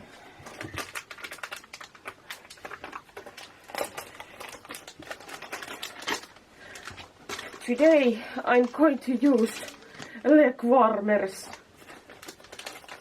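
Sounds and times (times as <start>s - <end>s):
clicking and rustling of handling: 0.4s - 10.4s, 11.4s - 13.0s.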